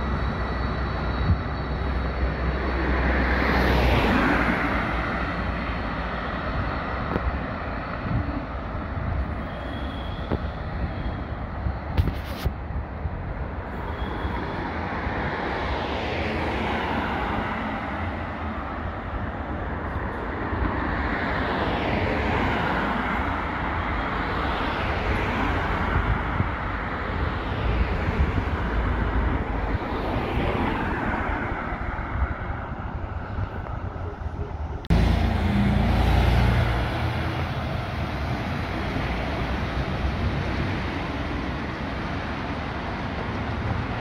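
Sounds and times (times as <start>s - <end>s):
cars driving past: 0.0s - 8.2s, 13.8s - 33.9s, 34.6s - 44.0s.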